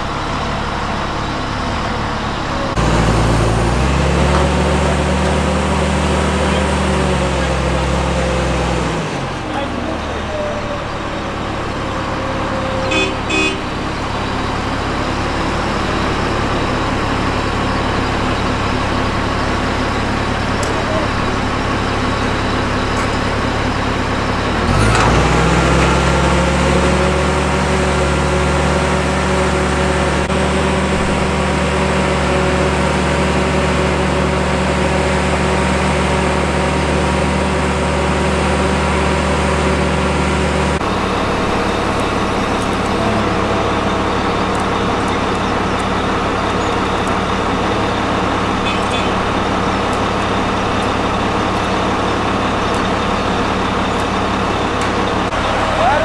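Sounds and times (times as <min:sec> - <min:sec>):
heavy vehicle engine revving: 0:00.0 - 0:56.0.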